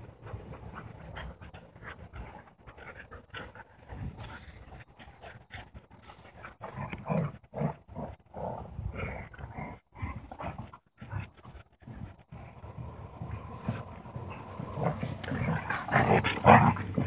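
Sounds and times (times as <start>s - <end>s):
dogs play-growling: 0.0s - 17.0s.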